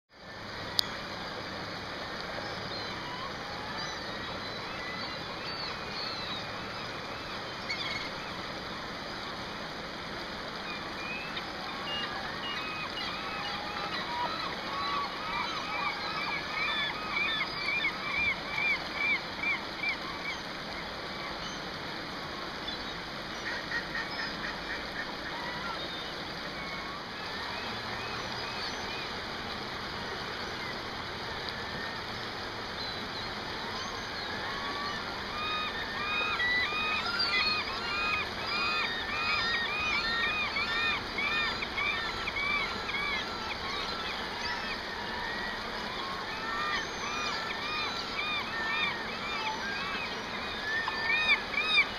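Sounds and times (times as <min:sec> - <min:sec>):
gulls calling: 0:00.2 - 0:51.9
river rushing over riffle: 0:00.2 - 0:51.9.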